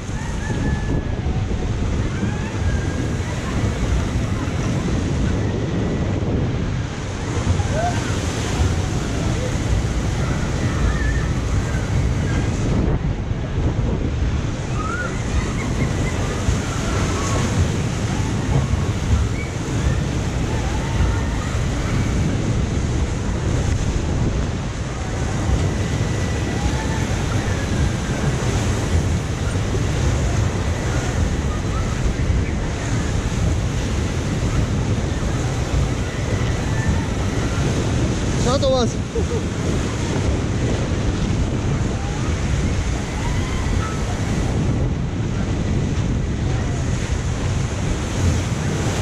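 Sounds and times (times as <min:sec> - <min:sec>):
water rushing and splashing: 0:00.0 - 0:49.0
wind buffeting microphone: 0:00.0 - 0:49.0.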